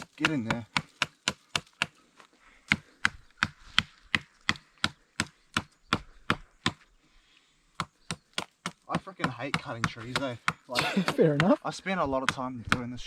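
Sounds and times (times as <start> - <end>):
hatchet chopping wood: 0.0 - 2.0, 2.6 - 6.9, 7.8 - 11.6, 12.2 - 13.0.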